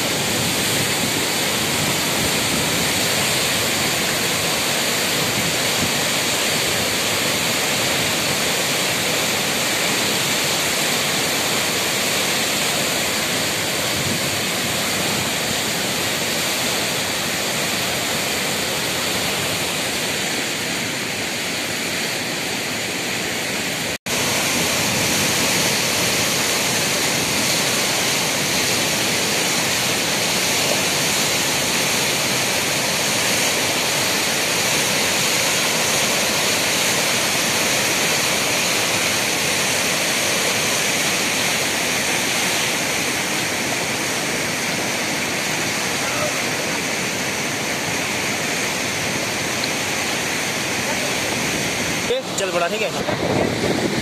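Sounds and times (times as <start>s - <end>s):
river rushing through rapids: 0.0s - 54.0s.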